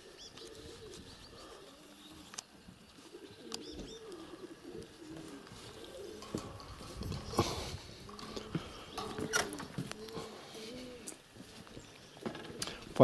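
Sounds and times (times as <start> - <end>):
pigeons cooing: 0.0 - 13.0
small birds chirping: 0.0 - 13.0.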